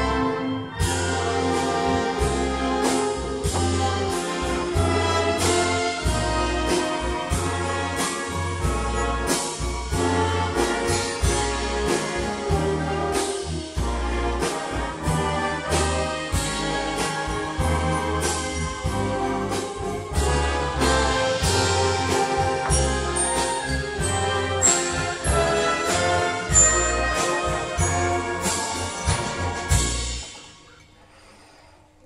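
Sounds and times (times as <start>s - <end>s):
live band with brass: 0.0s - 30.7s.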